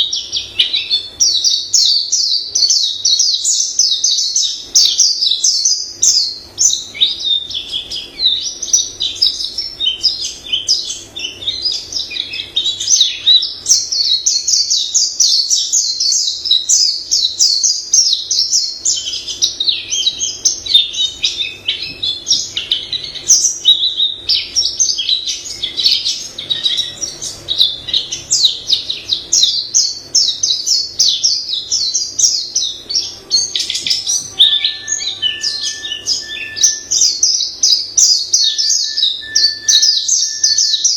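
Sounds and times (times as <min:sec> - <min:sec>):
bird twittering and warbling: 0:00.0 - 0:40.9.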